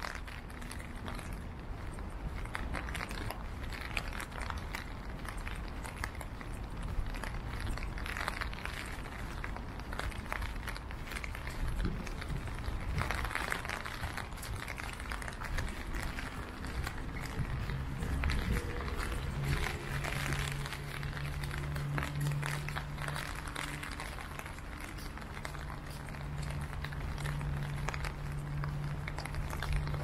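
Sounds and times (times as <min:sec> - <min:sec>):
rain crackling ticks: 0:00.0 - 0:30.0
low rumble: 0:04.6 - 0:30.0.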